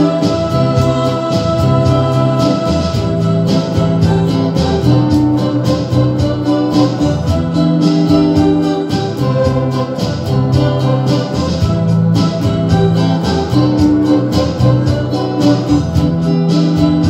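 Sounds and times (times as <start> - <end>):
jazz on guitar and keyboard: 0.0 - 17.0.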